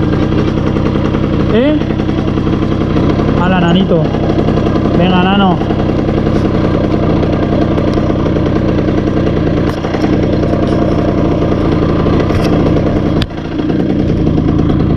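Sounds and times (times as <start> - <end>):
moped engine running: 0.0 - 14.9.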